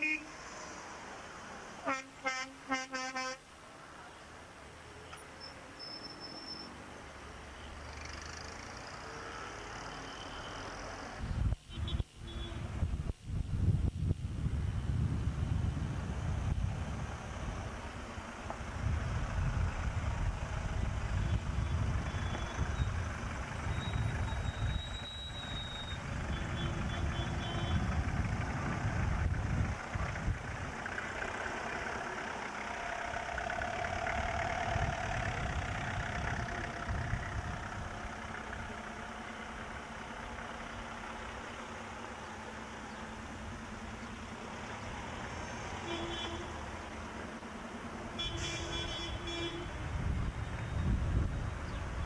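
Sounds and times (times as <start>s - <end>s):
cars driving past: 0.0s - 2.5s, 4.8s - 11.4s, 15.4s - 52.0s
tyres on road: 0.0s - 52.0s.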